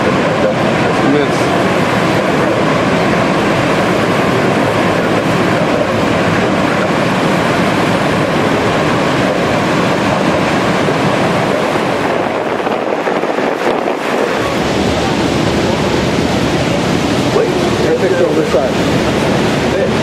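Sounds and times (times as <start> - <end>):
airplane engine and propeller: 0.0 - 20.0.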